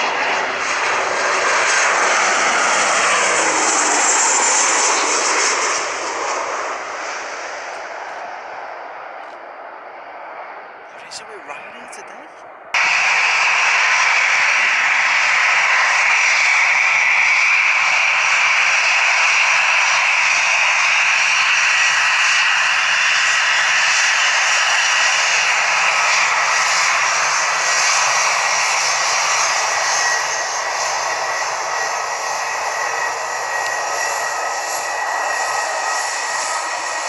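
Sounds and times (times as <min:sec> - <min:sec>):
jet engines rushing and whining: 0:00.0 - 0:37.0.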